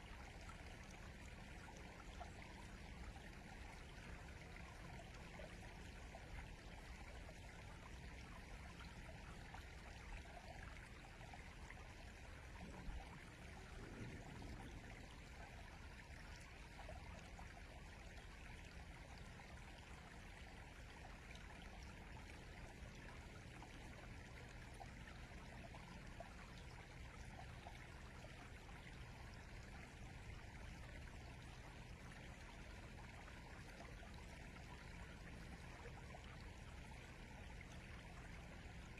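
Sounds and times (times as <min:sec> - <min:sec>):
flowing river: 0:00.0 - 0:38.9.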